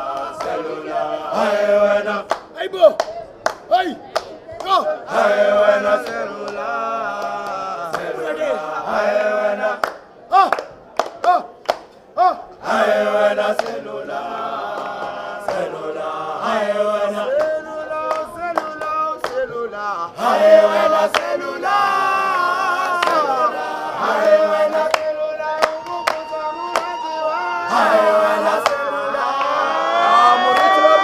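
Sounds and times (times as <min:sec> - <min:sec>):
choir singing: 0:00.0 - 0:02.4, 0:04.9 - 0:09.9, 0:12.6 - 0:31.0.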